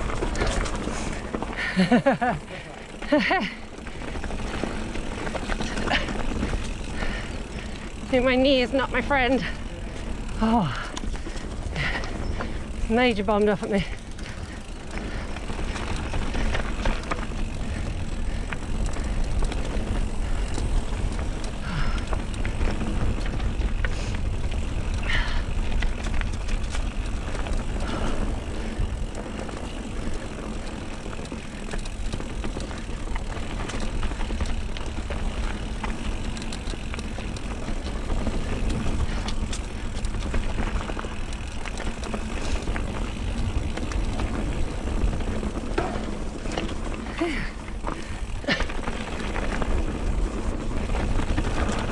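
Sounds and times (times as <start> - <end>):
bike rattling and clicking: 0.0 - 51.9
tyres on dry dirt: 0.0 - 51.9.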